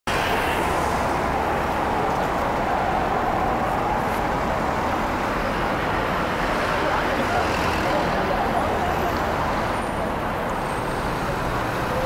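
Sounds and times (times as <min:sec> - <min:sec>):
road traffic hum: 0:00.1 - 0:12.0.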